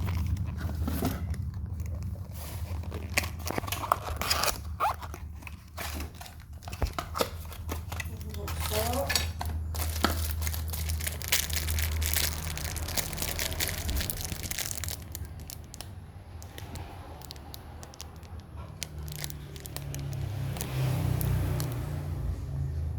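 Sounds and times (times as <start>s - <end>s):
packaging tearing and crumpling: 0.0s - 21.9s.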